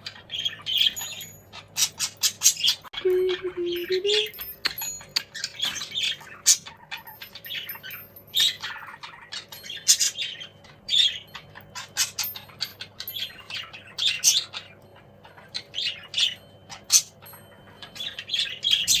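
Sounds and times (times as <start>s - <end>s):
cockatiels squawking and chirping: 0.0s - 19.0s.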